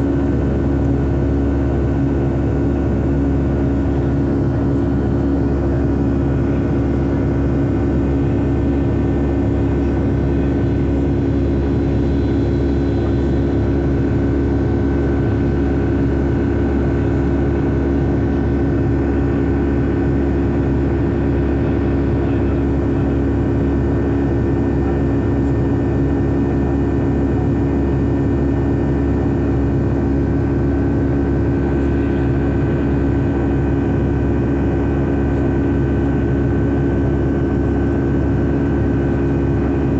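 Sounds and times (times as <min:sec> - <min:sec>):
jet engines and airflow in cabin: 0:00.0 - 0:39.9.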